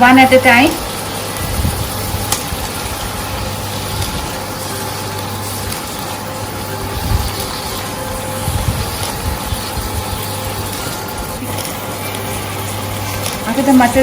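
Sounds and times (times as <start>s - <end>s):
sauce sizzling in a pan: 0.0s - 14.0s.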